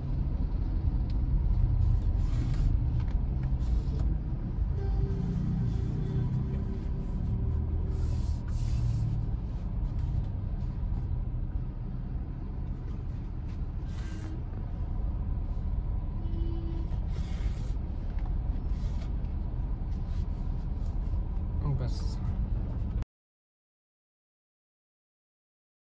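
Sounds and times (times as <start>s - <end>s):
motor vehicles rumbling: 0.0s - 23.0s.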